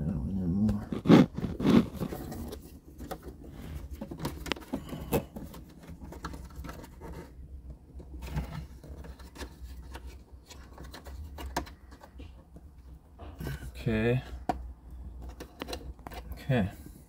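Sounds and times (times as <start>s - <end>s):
plastic scraping: 0.6s - 16.6s.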